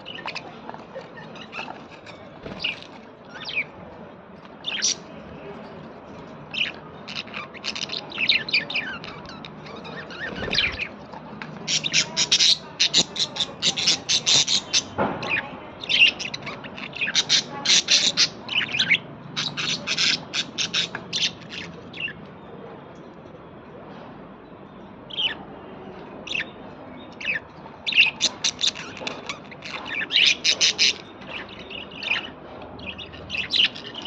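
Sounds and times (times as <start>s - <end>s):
small birds chirping: 0.0s - 23.0s, 24.7s - 34.0s.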